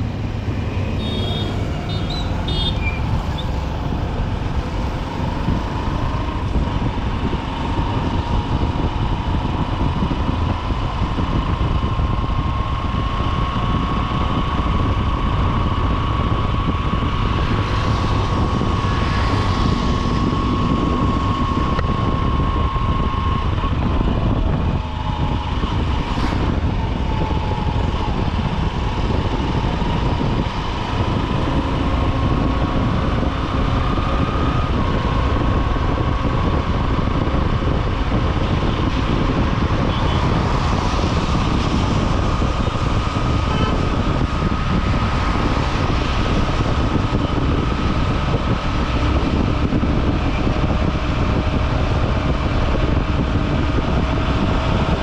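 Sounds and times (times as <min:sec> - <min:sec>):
motorcycle engine running: 0:00.0 - 0:55.0
road and street noise: 0:00.0 - 0:55.0.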